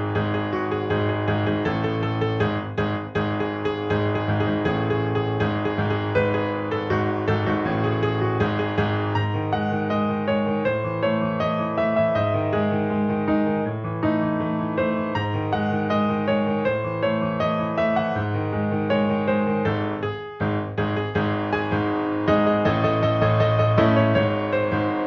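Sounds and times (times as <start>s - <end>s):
piano background music: 0.0s - 25.0s.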